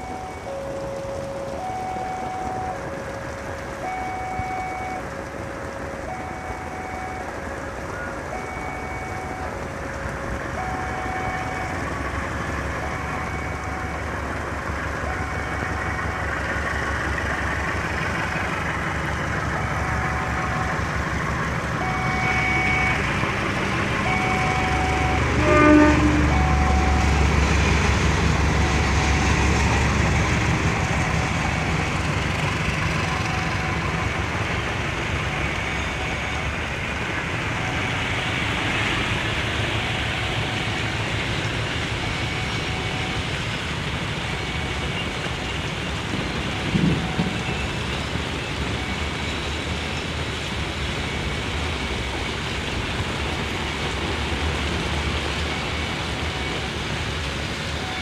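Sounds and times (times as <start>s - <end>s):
steady rain: 0.0s - 58.0s
train rumble: 0.0s - 58.0s.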